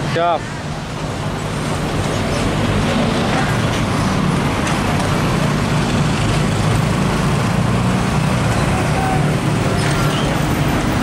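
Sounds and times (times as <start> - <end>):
truck diesel engines passing: 0.0 - 11.0.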